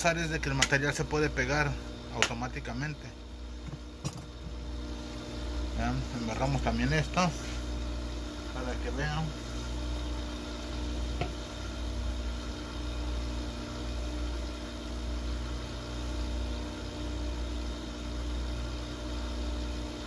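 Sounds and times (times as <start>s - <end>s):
electric motor humming: 0.0s - 20.0s
faint machinery drone: 0.0s - 20.0s.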